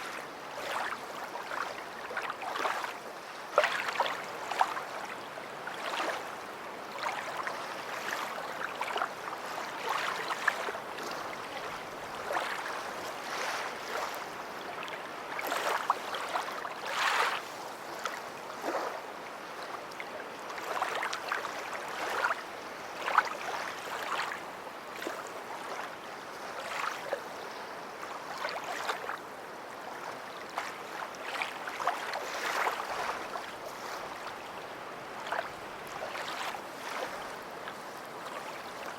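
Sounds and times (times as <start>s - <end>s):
sea waves washing onto beach: 0.0s - 27.2s, 27.9s - 38.9s.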